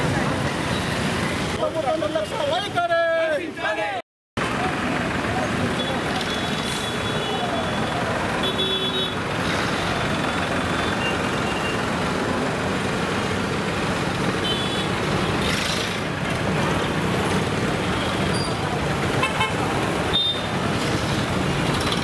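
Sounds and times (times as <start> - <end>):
traffic engines running: 0.0 - 22.0.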